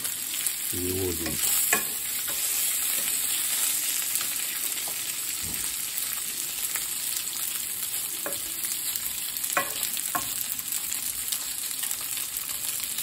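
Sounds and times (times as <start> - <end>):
dumplings sizzling in a pan: 0.0 - 13.0.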